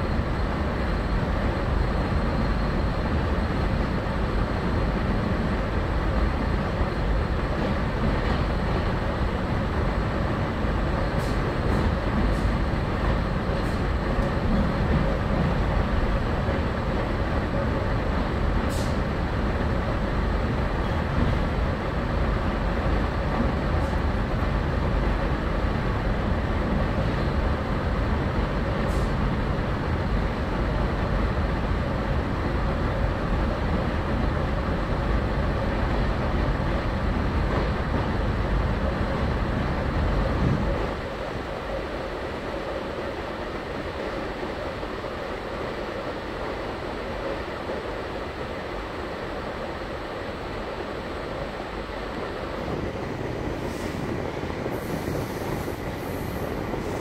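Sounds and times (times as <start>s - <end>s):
train carriage rumble: 0.0s - 57.0s.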